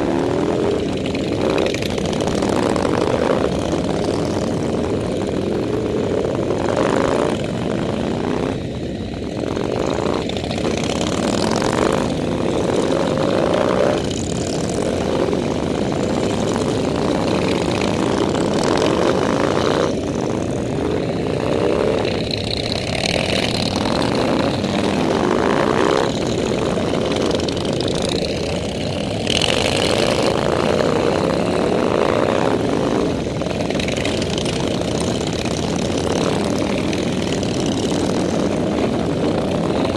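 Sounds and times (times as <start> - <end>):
motorcycle engines running: 0.0 - 39.9.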